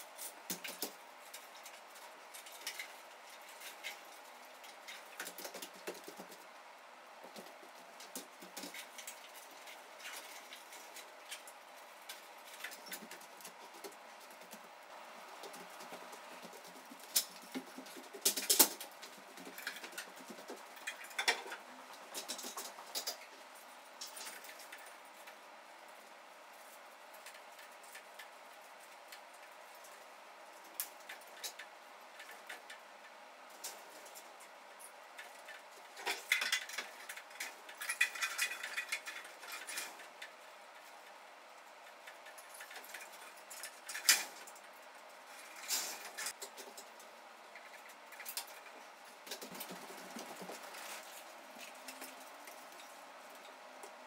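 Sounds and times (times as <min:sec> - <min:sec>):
faint room hum: 0:00.0 - 0:54.0.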